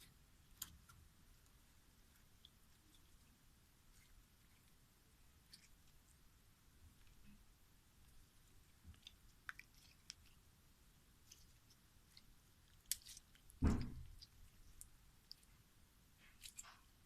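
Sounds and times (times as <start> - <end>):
deep slime squelch: 0.0 - 17.0.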